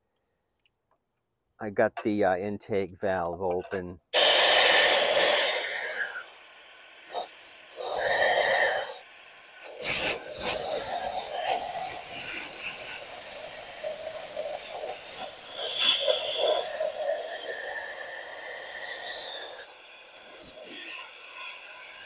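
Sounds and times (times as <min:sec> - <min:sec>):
compressed air blowing: 0:04.1 - 0:22.0.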